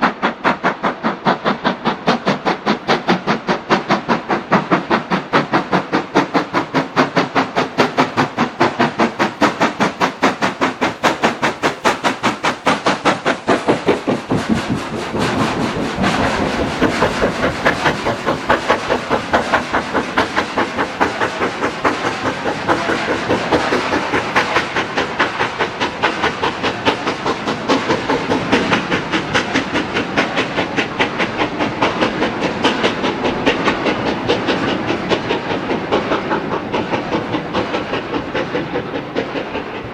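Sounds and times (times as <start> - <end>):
rush of steam and train noise: 0.0 - 39.9
steam locomotive exhaust beats: 0.0 - 39.9.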